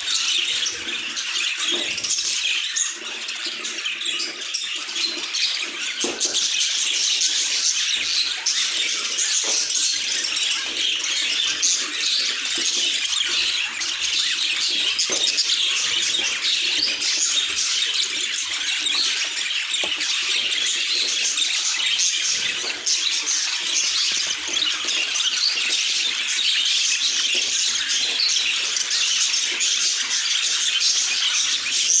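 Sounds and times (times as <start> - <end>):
budgerigars chattering: 0.0 - 32.0.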